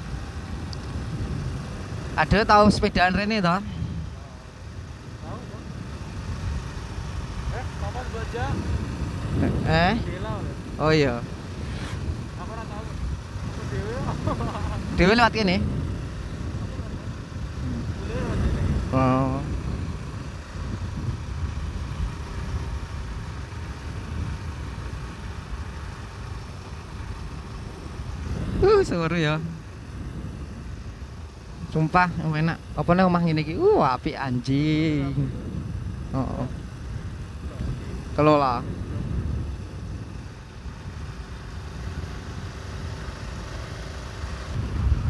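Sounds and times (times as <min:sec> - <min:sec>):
motorcycle engine cruising: 0:00.0 - 0:45.0
wind and road noise: 0:00.0 - 0:45.0.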